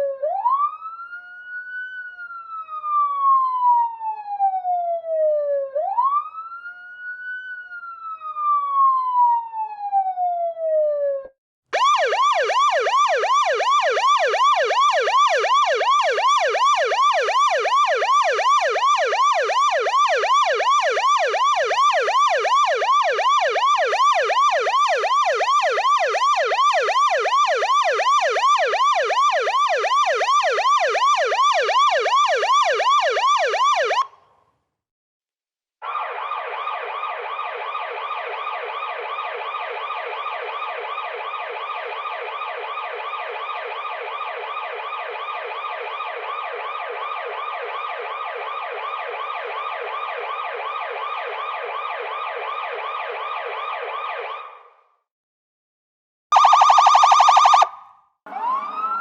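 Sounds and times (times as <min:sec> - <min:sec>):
police siren wailing and yelping: 0:00.0 - 0:34.2, 0:35.8 - 0:54.8, 0:56.3 - 0:59.0.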